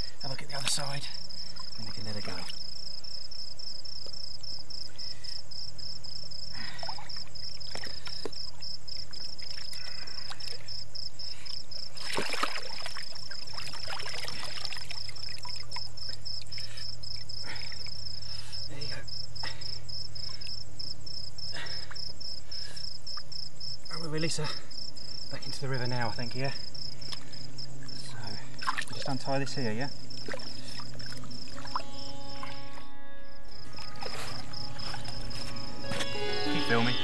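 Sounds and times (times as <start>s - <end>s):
crickets chirping: 0.0s - 37.0s
low steady hum: 0.0s - 37.0s.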